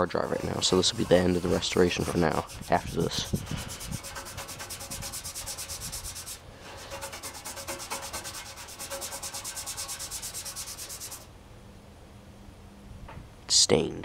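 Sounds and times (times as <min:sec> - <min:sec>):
brush scrubbing with water: 0:00.0 - 0:11.3.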